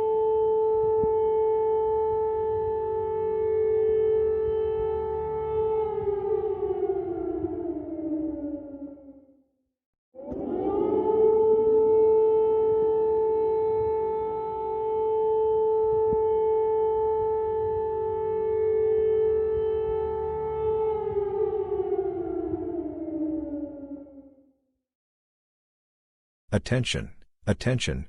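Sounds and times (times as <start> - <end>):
civil defense siren: 0.0 - 9.4, 10.2 - 24.5.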